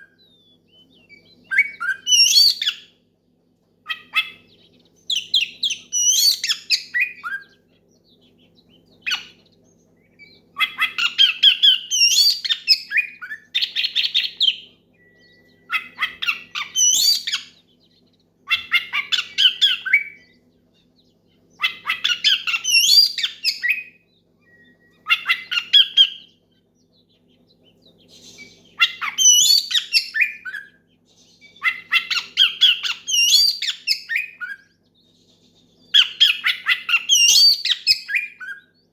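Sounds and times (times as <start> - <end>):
songbird singing whistles and harsh notes: 0.0 - 3.0, 3.9 - 38.9.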